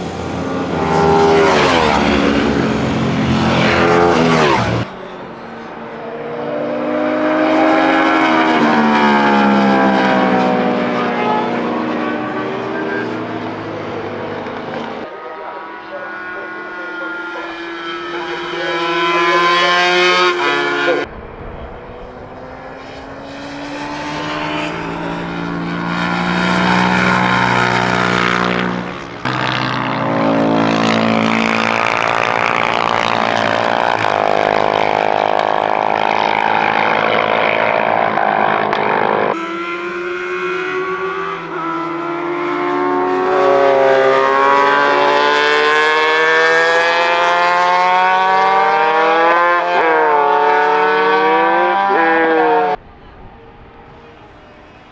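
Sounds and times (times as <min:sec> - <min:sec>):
racing motorcycle engines: 0:00.0 - 0:54.9.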